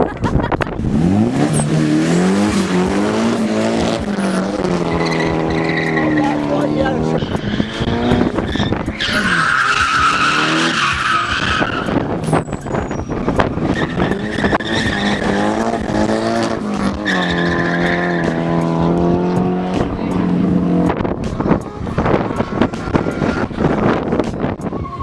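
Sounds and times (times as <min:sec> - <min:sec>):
car engine revving: 0:00.0 - 0:24.7
tire skidding: 0:00.0 - 0:24.7.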